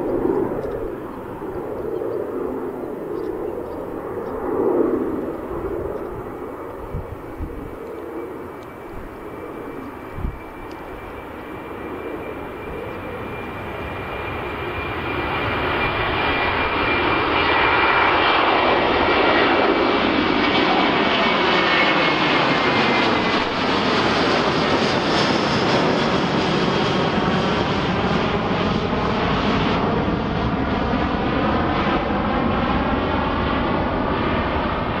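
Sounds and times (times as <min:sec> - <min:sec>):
airliner engines flying past: 0:00.0 - 0:35.0
high engine whine: 0:00.0 - 0:35.0.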